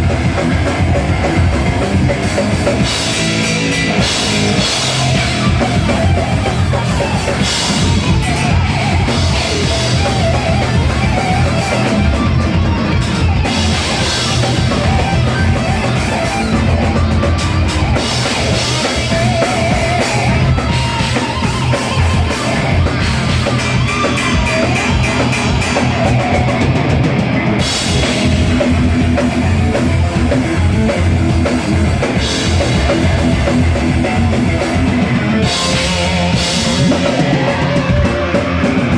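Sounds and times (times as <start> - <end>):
heavy metal band playing: 0.0 - 38.9
pounding drum kit: 0.0 - 38.9.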